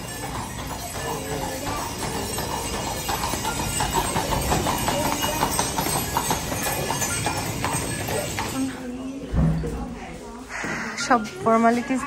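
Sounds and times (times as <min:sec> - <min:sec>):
hooves clip-clopping on pavement: 0:00.0 - 0:10.4.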